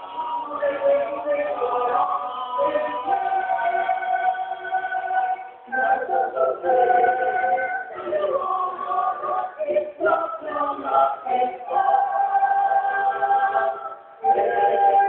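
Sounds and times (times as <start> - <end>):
church choir singing: 0.0 - 15.0.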